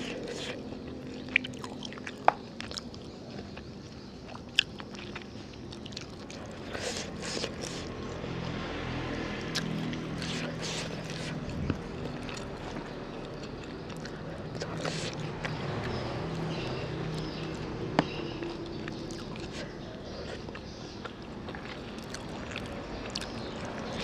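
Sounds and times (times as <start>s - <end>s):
close-miked chewing: 0.0s - 24.0s.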